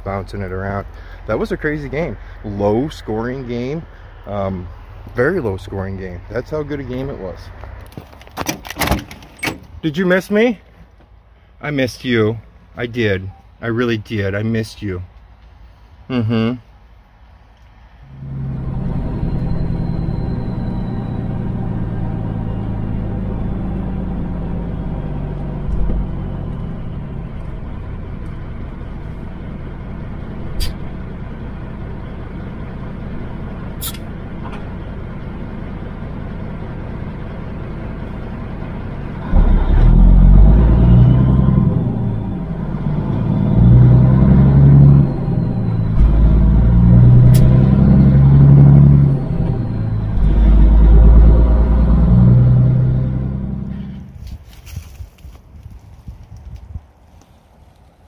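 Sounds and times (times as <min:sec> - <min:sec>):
diesel truck engine: 0:00.0 - 0:58.0.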